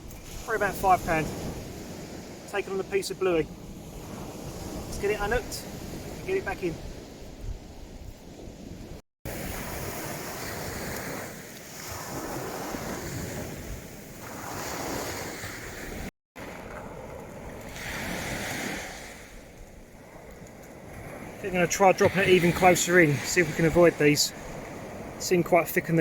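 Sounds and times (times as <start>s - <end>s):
wind on microphone: 0.0s - 25.2s
waves breaking on beach: 0.0s - 26.0s.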